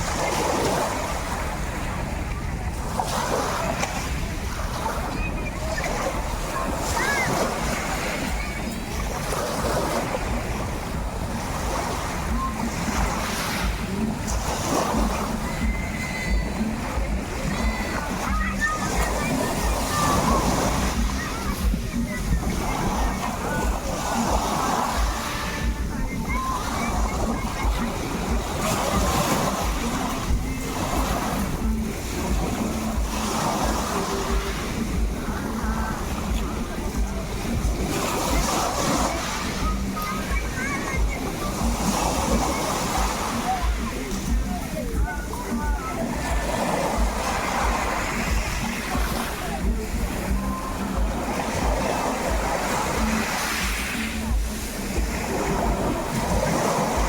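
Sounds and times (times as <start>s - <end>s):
sea waves washing: 0.0s - 57.0s
wind buffeting microphone: 0.0s - 57.0s.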